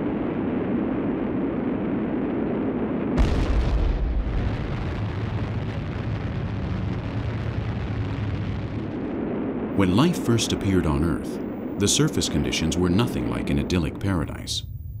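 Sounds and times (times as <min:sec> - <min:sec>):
deep rumble of lava fountaining: 0:00.0 - 0:15.0
explosive volcanic blast: 0:00.0 - 0:15.0.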